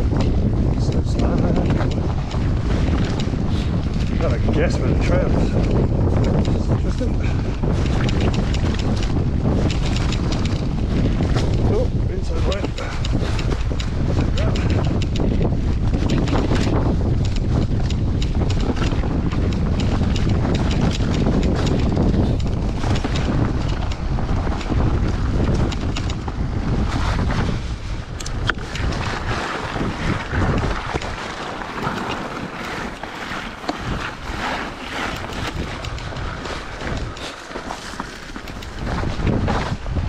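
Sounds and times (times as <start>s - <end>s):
bike rattling: 0.0s - 40.0s
bike tyres crunching on snow: 0.0s - 40.0s
wind buffeting microphone: 0.0s - 40.0s.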